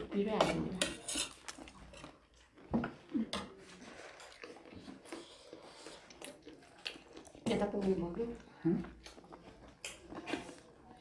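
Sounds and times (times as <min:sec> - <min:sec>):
chewing food: 0:00.8 - 0:11.0.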